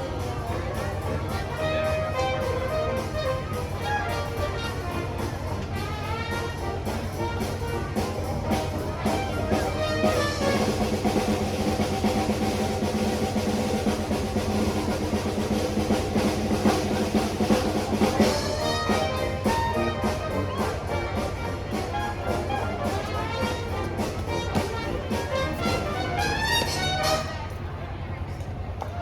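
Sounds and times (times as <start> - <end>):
drums beating: 0.0 - 27.6
band music with brass: 0.0 - 27.7.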